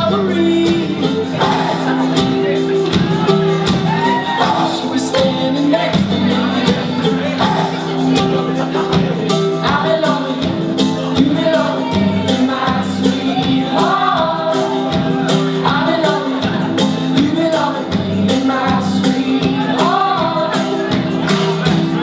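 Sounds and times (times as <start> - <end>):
held keyboard chords: 0.0 - 22.0
person singing: 0.0 - 22.0
steady drumbeat: 0.0 - 22.0.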